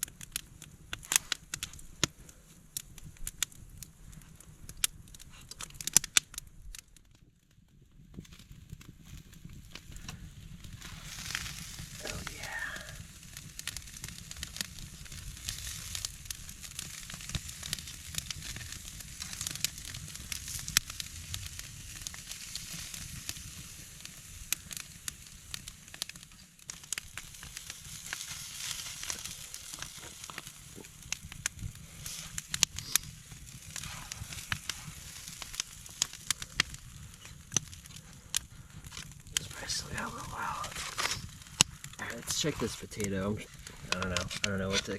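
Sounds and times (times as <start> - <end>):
chicken sizzling over fire: 0.0 - 44.9
sharp pops and crackles: 0.0 - 44.9.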